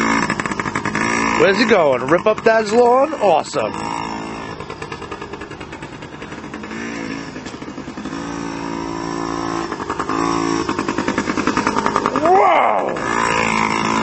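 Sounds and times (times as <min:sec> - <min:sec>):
small two-stroke engine revving: 0:00.0 - 0:14.0.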